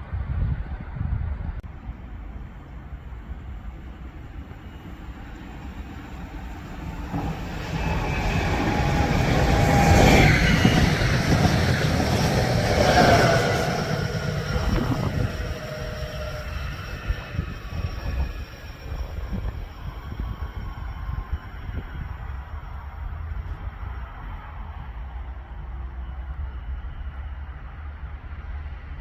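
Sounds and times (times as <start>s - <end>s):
train rumbling past: 0.0s - 29.0s
train whining tones: 1.8s - 29.0s.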